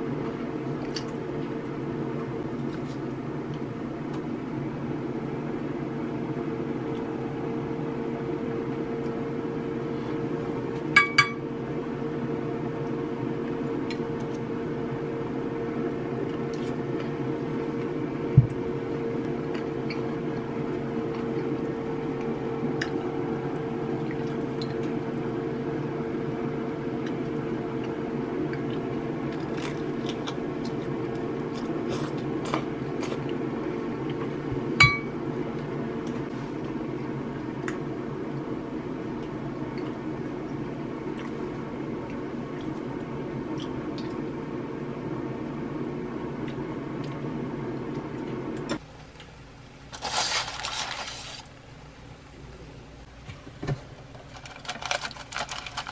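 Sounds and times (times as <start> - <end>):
background hum: 0.0 - 55.9.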